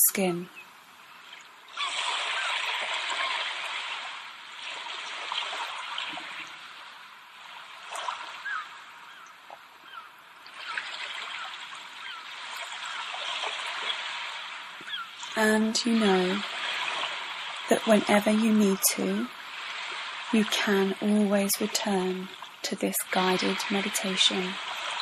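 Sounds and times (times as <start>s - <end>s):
running water: 0.0s - 25.0s.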